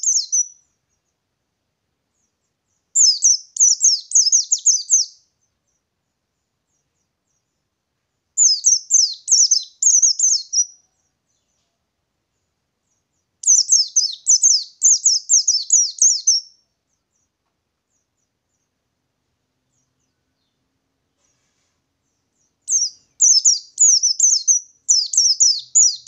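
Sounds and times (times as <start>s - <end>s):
bird singing rolling phrases: 0.0s - 26.0s.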